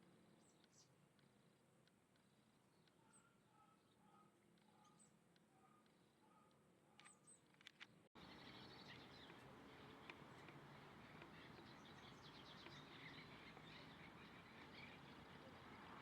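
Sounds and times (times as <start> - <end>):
small birds chirping: 0.0 - 7.6, 8.2 - 16.0.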